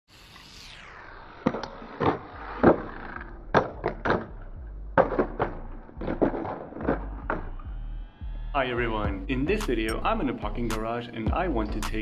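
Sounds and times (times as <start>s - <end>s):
faint low rumble: 0.6s - 10.7s.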